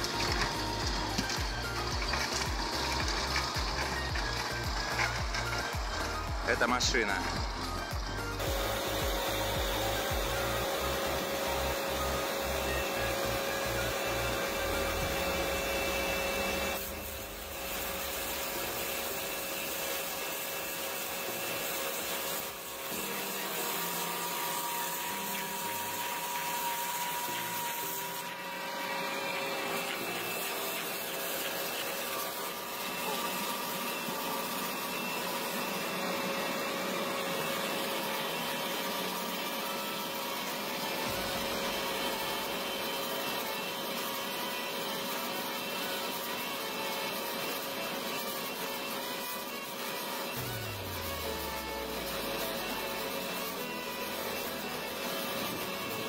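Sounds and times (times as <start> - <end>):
stump grinder grinding wood: 0.0 - 56.0.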